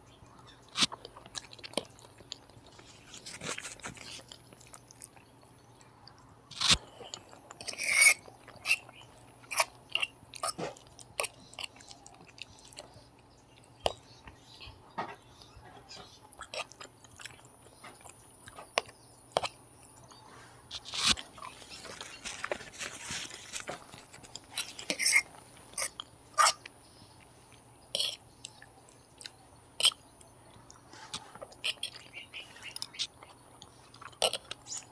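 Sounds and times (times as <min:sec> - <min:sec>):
person chewing food: 0:00.2 - 0:34.9.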